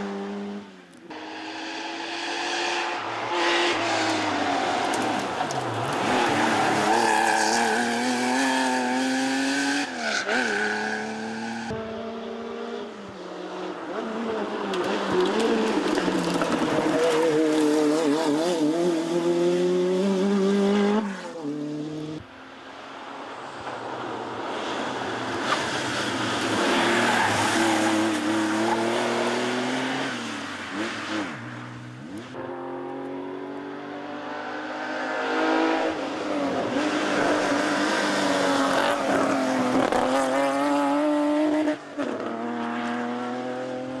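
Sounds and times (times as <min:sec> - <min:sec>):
rally car engines revving: 0:00.0 - 0:22.2, 0:24.6 - 0:44.0.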